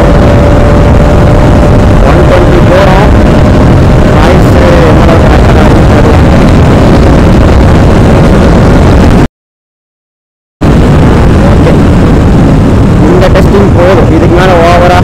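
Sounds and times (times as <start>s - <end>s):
wind and road noise rushing: 0.0s - 9.3s, 10.6s - 15.0s.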